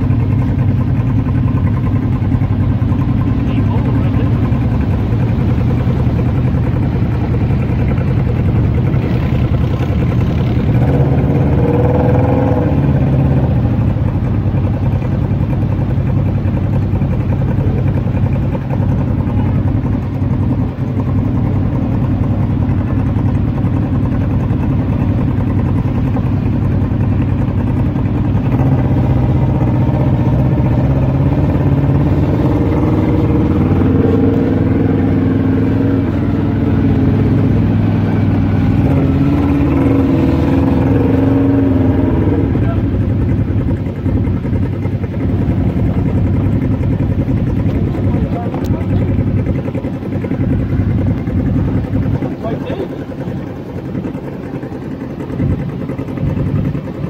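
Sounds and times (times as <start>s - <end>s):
utility vehicle engines running: 0.0s - 57.0s.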